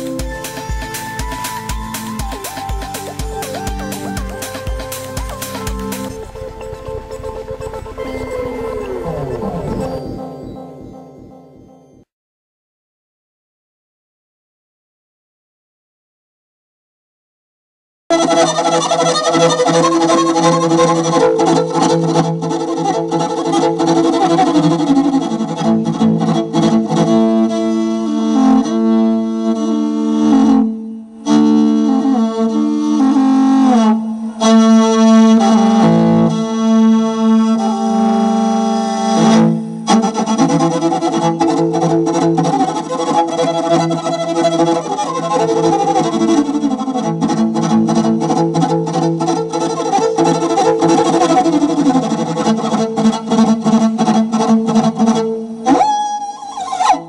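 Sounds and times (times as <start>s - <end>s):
bowed fiddle melody: 0.0s - 12.0s, 18.1s - 57.0s.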